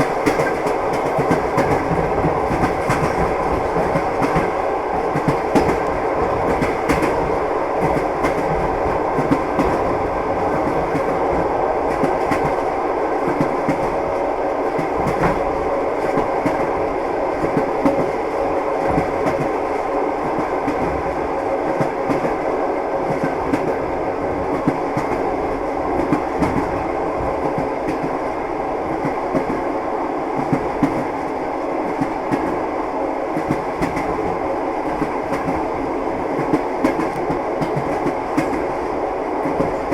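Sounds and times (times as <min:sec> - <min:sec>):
train rumble: 0:00.0 - 0:39.9.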